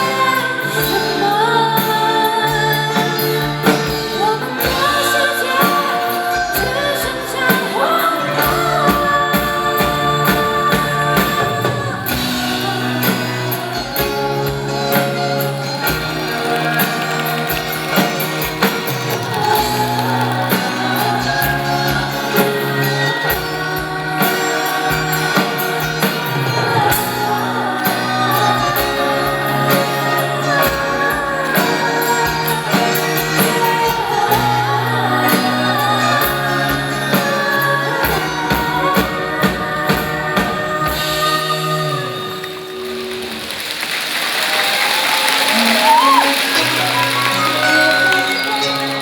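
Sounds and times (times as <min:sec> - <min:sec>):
woman singing pop ballad: 0:00.0 - 0:42.7
band with drums: 0:00.0 - 0:49.0.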